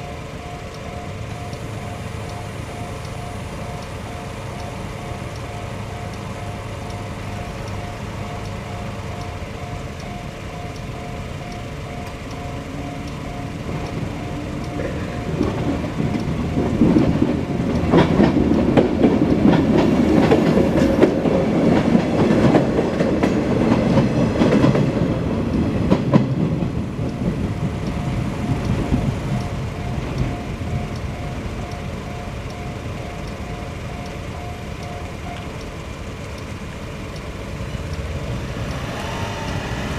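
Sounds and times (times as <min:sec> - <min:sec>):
level crossing bell ringing: 0:00.0 - 0:23.6, 0:26.4 - 0:36.0
train rumble and wheel clatter: 0:00.0 - 0:39.9.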